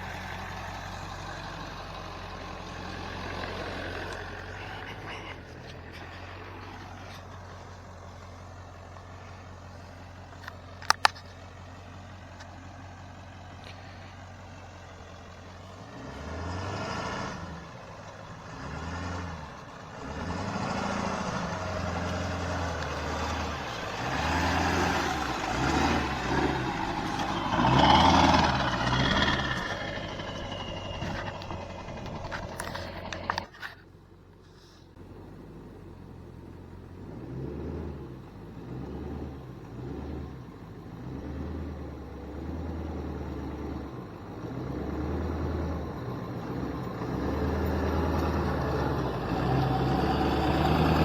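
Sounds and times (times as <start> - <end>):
truck engine idling and revving: 0.0 - 51.0.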